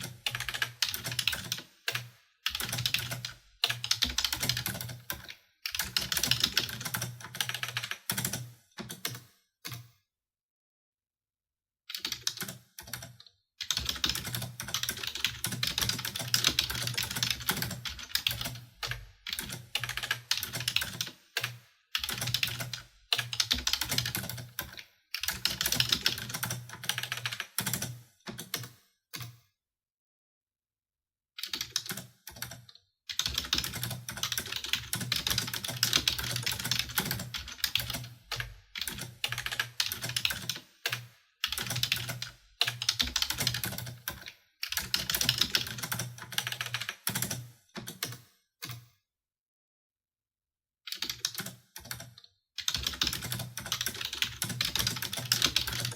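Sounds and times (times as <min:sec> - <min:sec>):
fast typing on keyboard: 0:00.0 - 0:09.8, 0:11.9 - 0:28.8, 0:31.4 - 0:48.8, 0:50.9 - 0:55.9.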